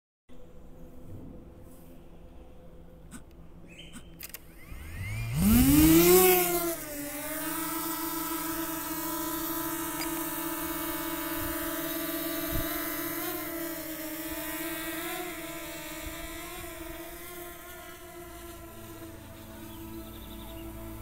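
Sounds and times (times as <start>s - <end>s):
drone propellers whining: 3.2s - 21.0s.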